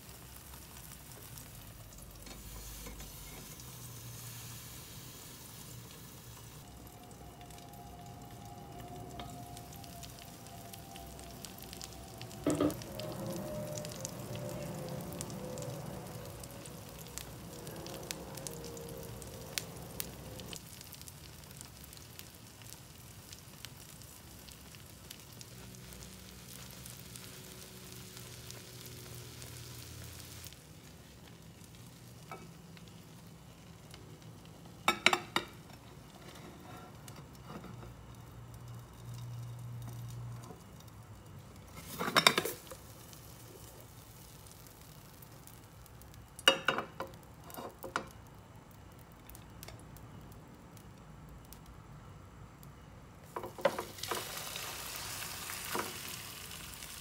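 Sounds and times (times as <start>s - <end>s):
egg sizzling in oil: 0.0s - 50.9s, 53.2s - 57.0s.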